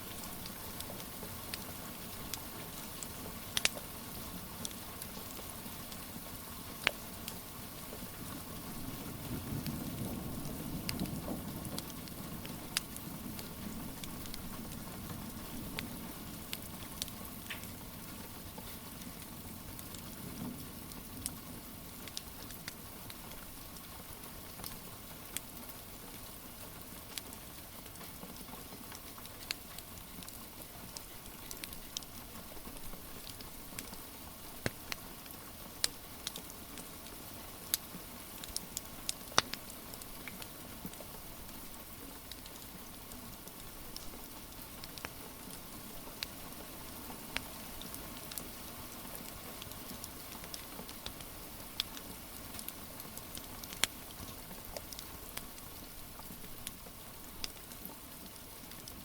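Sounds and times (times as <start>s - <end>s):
wood fire crackling: 0.0s - 8.8s, 9.6s - 59.0s
steady rain: 0.0s - 59.0s.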